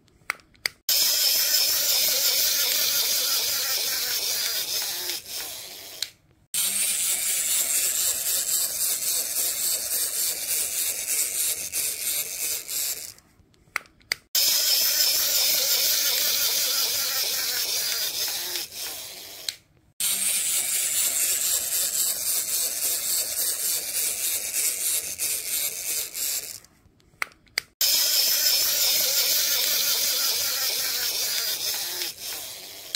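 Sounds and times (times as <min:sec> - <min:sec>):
toy motor whirring and clicking: 0:00.6 - 0:32.9.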